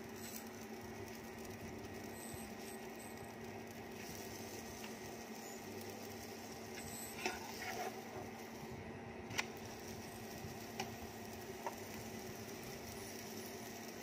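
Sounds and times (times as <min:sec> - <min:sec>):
induction cooktop hum: 0:00.0 - 0:14.0.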